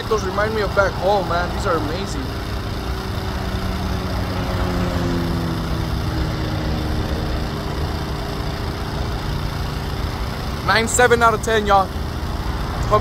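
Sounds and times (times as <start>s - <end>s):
traffic rumble: 0.0s - 13.0s
vehicle engine passing: 0.0s - 13.0s.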